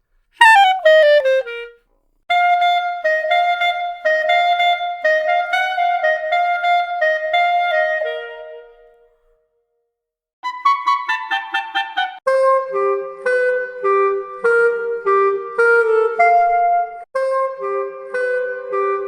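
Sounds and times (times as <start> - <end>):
solo clarinet: 0.4 - 9.2, 10.4 - 19.0.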